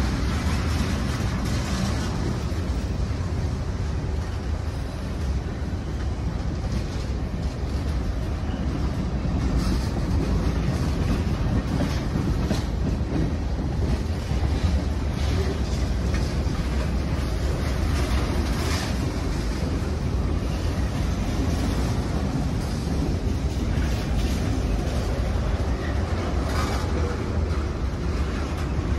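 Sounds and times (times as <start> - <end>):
freight train wheels rumbling on rail: 0.0 - 28.9.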